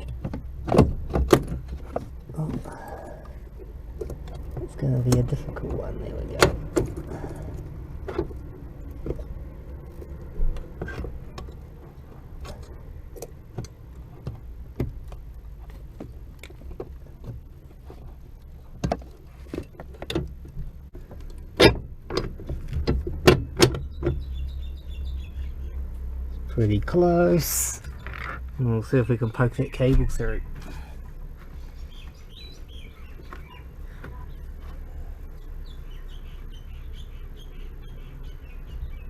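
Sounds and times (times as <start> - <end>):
clicks and knocks on clutch pedal: 0.0 - 24.8, 29.3 - 36.0.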